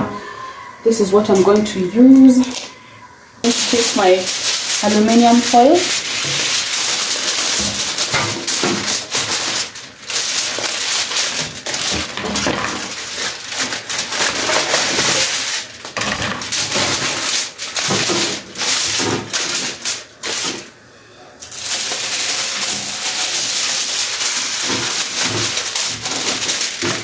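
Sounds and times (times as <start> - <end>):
aluminium foil crinkling: 1.1 - 2.7, 3.4 - 20.8, 21.4 - 27.0.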